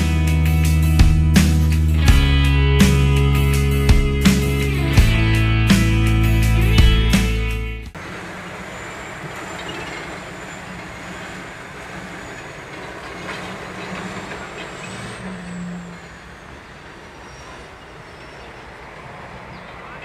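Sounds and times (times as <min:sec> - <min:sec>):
diesel locomotive engine rumbling: 0:00.0 - 0:20.0.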